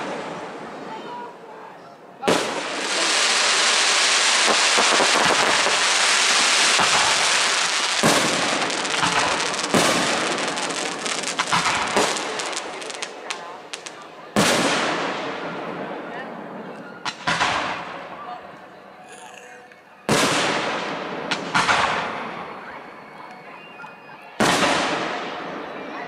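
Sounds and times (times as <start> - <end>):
fireworks bangs: 0.0 - 1.2, 2.2 - 18.4, 20.0 - 26.0
fireworks crackling: 2.2 - 26.0.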